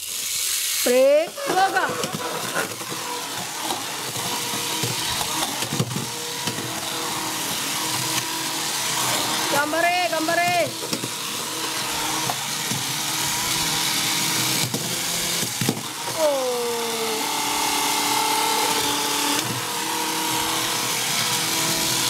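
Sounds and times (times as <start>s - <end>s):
toy robot motors whirring: 0.0s - 22.0s.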